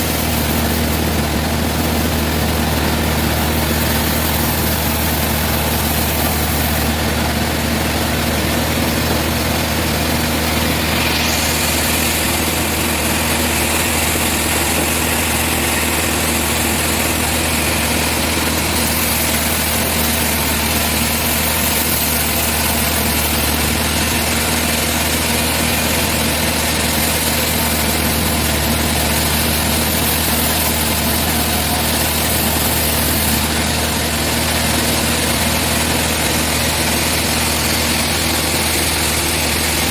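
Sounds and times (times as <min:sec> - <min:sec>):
high hiss: 0:00.0 - 0:39.9
sawmill machinery humming: 0:00.0 - 0:39.9.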